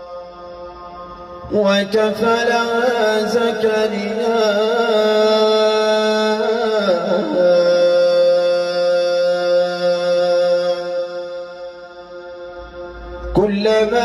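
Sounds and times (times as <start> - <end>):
person reciting a long melodic note: 0.0 - 14.0.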